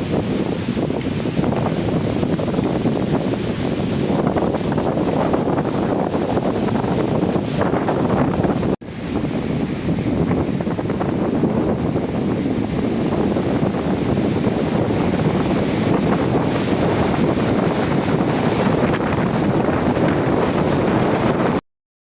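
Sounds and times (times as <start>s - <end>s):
wind buffeting microphone: 0.0s - 21.6s.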